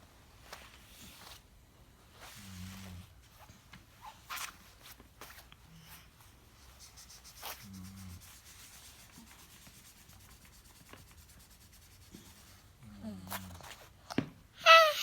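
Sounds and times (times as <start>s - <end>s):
faint rubbing and rustling: 0.0s - 14.0s.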